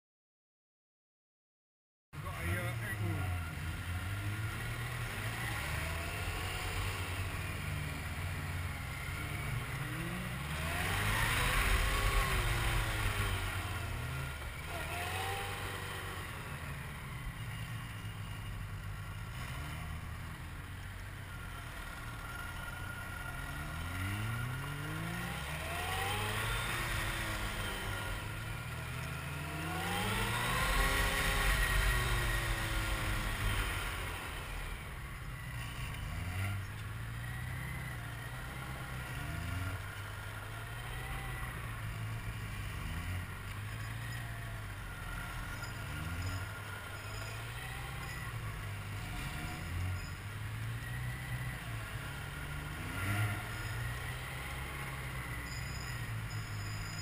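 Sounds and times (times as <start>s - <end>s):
motorcycle engine revving: 2.2s - 57.0s.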